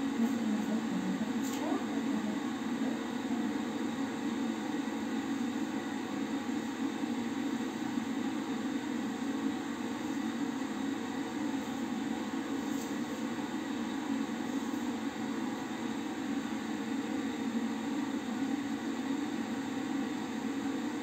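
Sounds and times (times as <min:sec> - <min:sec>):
extractor fan humming: 0:00.0 - 0:21.0.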